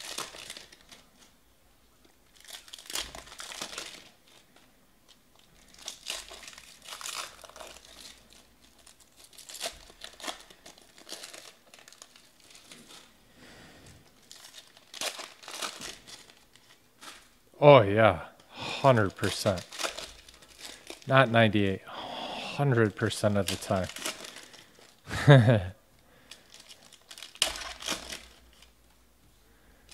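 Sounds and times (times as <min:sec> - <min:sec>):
foil wrapper crinkling and tearing: 0:00.0 - 0:01.3, 0:02.0 - 0:17.4, 0:18.6 - 0:21.7, 0:22.4 - 0:25.0, 0:26.1 - 0:28.9.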